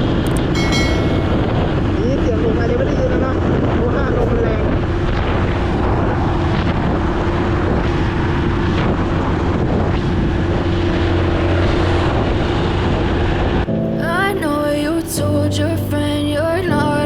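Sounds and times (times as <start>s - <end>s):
motorcycle engine hum: 0.0s - 14.6s
wind buffeting microphone: 0.0s - 15.2s.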